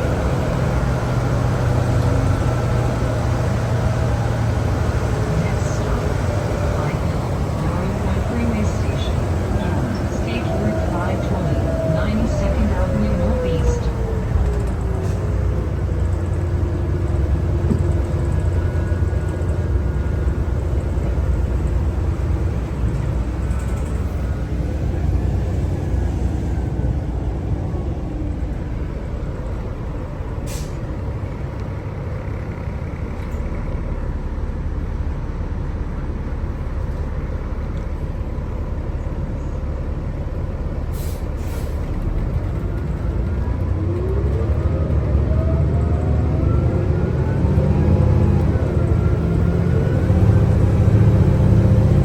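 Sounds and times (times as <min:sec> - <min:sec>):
faint transmission whine: 0:00.0 - 0:44.8
bus engine and road rumble: 0:00.0 - 0:52.0.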